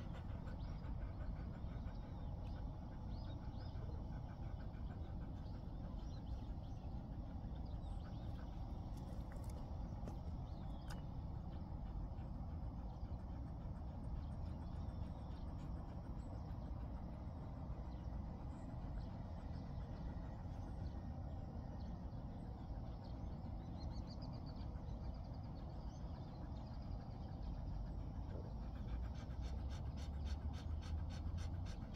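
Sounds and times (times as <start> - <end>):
dog panting: 0.0 - 31.9
steady low rumble: 0.0 - 31.9.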